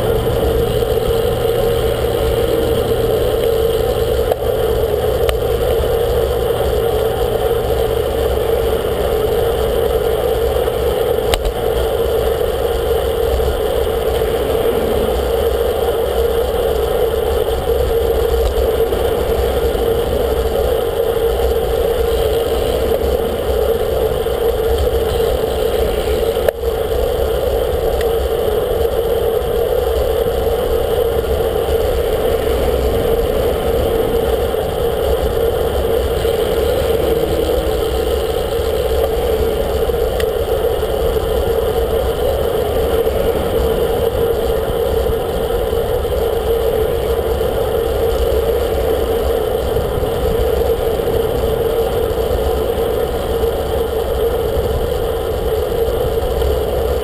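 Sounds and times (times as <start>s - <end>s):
passing traffic: 0.0s - 57.0s
tyre and road noise: 0.0s - 57.0s
wind on microphone: 0.0s - 57.0s.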